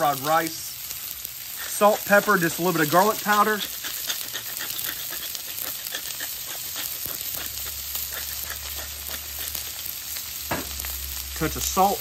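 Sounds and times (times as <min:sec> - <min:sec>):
vegetables sizzling on griddle: 0:00.0 - 0:12.0.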